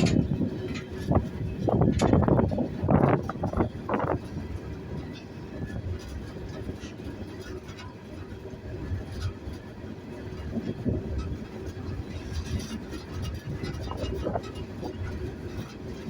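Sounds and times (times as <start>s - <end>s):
train car knocks and rattles: 0.0s - 16.0s
train wheels rumbling on rail: 0.0s - 16.0s.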